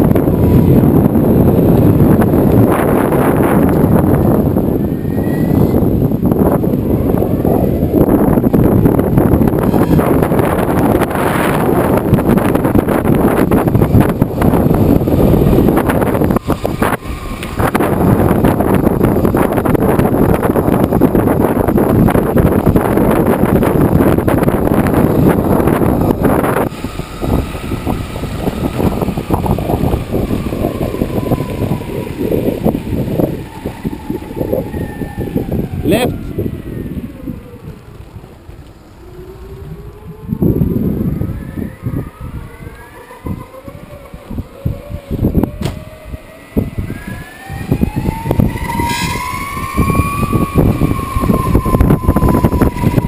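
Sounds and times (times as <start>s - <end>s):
wheels rolling on rough asphalt: 0.0s - 53.0s
wind buffeting microphone: 0.0s - 53.0s.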